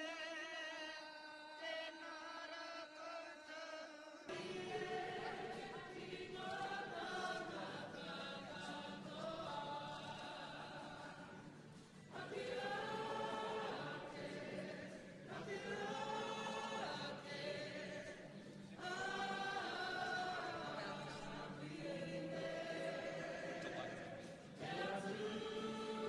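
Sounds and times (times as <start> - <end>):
choir singing: 4.2 - 26.0.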